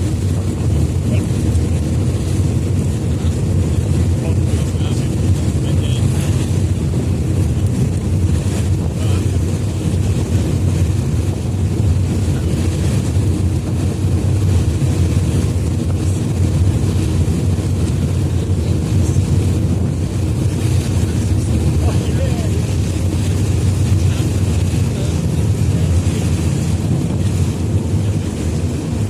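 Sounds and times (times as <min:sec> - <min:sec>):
ferry engines rumbling: 0:00.0 - 0:29.0
water along hull: 0:00.0 - 0:29.0
wind buffeting microphone: 0:00.0 - 0:29.0.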